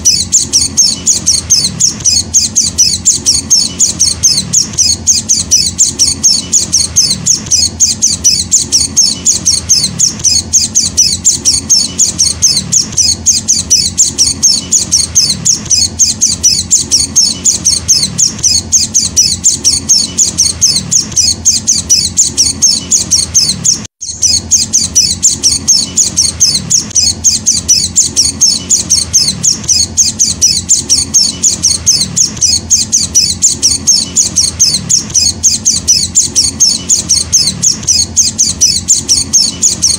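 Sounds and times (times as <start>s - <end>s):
bird chick begging chirps: 0.0s - 39.9s.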